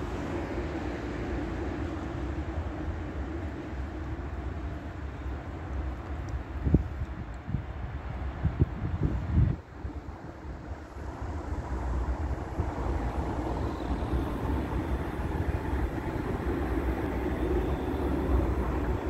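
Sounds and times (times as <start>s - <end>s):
tram rumbling along rails: 0.0s - 19.0s.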